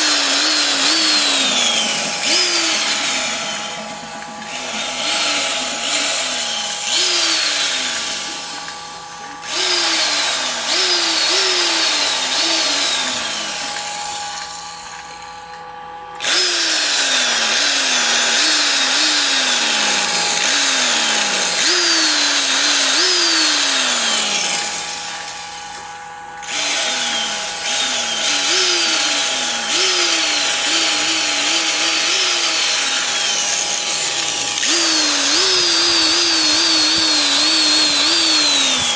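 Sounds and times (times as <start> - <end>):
electric drill motor whine: 0.0 - 38.9.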